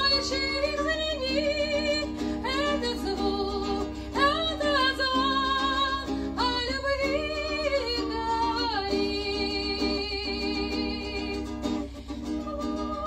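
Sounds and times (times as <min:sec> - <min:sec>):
acoustic guitar: 0:00.0 - 0:13.0
woman singing with vibrato: 0:00.0 - 0:13.0.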